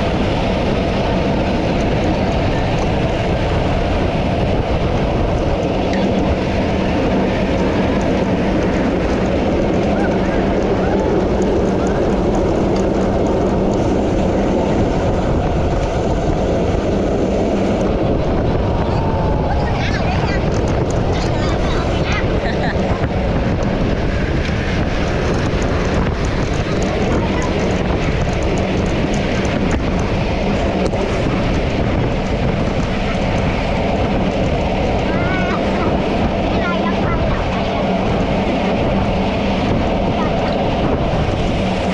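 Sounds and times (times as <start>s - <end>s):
road and tyre noise: 0.0s - 41.9s
wind on microphone: 0.0s - 41.9s.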